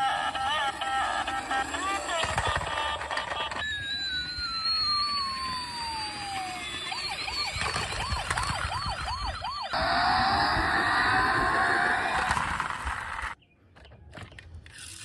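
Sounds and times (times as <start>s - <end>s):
toy siren: 0.0s - 13.4s.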